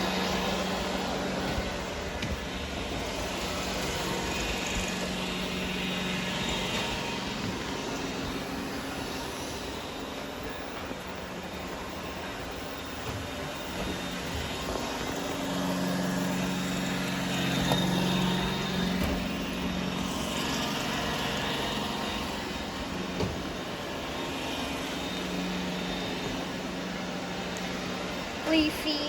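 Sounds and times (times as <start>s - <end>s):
robot vacuums running: 0.0s - 29.0s.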